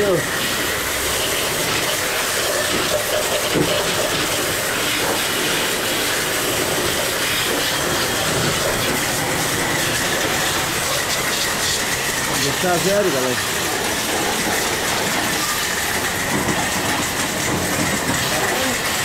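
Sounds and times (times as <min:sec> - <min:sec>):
pressure washer spraying metal: 0:00.0 - 0:19.0.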